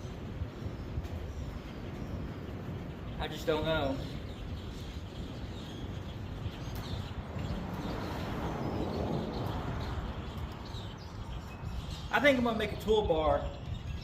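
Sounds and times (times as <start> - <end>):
steady low rushing noise: 2.0 - 14.0.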